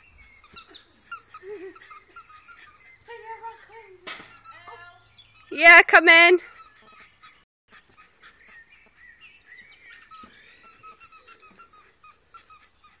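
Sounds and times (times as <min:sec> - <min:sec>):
bird chirps: 0:00.0 - 0:05.8, 0:06.5 - 0:13.0.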